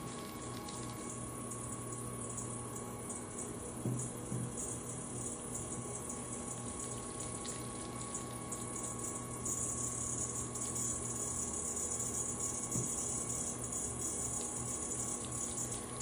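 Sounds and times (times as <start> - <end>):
potter's wheel humming: 0.0 - 16.0.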